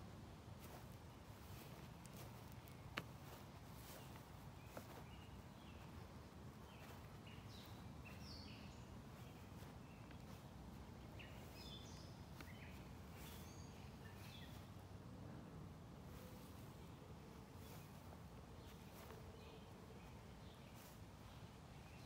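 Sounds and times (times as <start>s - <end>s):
small birds chirping: 0.4s - 15.0s, 16.0s - 22.0s.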